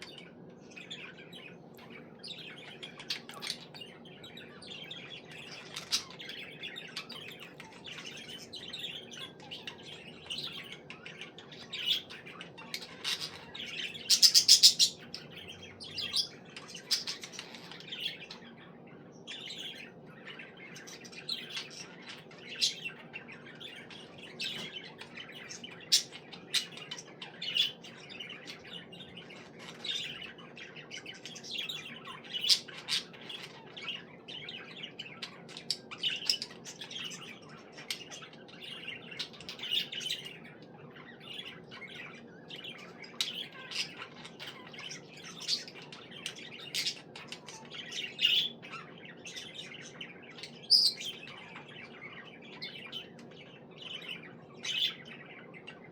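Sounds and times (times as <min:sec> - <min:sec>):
budgies chirping: 0:00.0 - 0:55.9.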